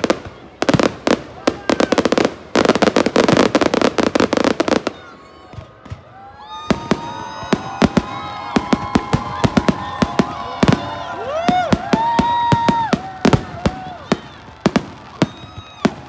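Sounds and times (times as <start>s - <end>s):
fireworks crackling bangs: 0.0s - 16.0s
whistling fireworks: 0.0s - 16.0s.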